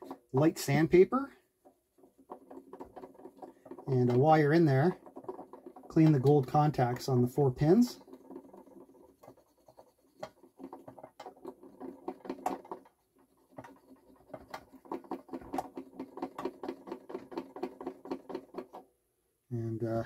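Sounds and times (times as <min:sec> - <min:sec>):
cotton swab rubbing metal: 0:00.0 - 0:18.8.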